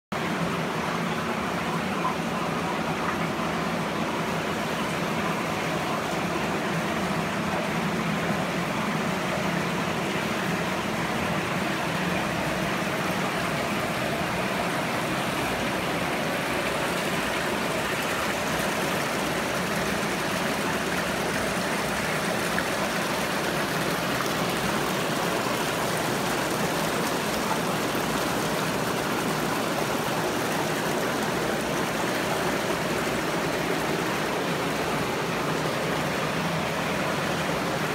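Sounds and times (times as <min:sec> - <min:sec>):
running water rushing: 0:00.1 - 0:37.9.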